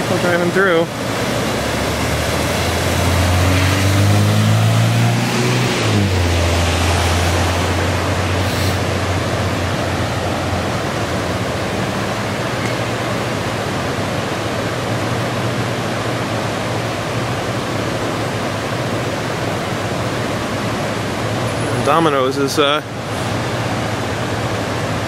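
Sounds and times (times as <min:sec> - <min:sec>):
floodwater rushing along a street: 0:00.0 - 0:25.0
vehicle engine hum: 0:00.0 - 0:25.0.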